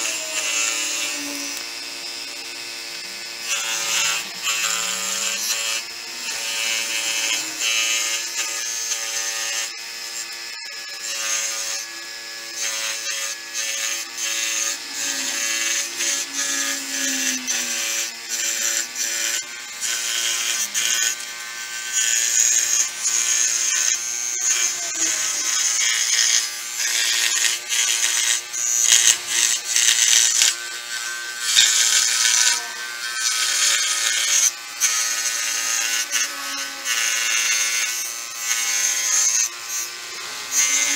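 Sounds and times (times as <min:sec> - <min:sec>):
small electric power tool running: 0:00.0 - 0:40.9.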